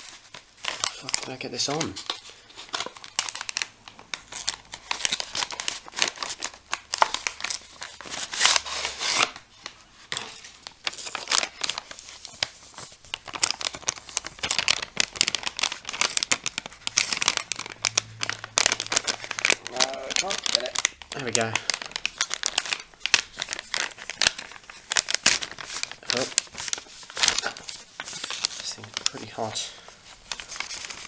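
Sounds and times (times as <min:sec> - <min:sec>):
plastic and foil crinkling: 0:00.0 - 0:31.0.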